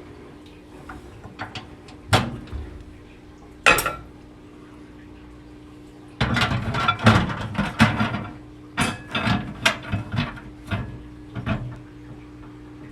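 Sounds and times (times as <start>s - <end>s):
microwave humming: 0.0s - 12.9s.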